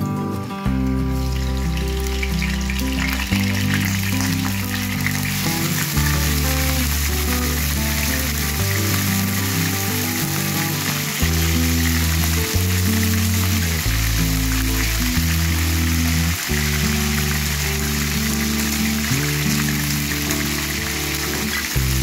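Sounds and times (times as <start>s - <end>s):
background music with bass: 0.0s - 22.0s
chicken sizzling in hot oil: 0.6s - 22.0s.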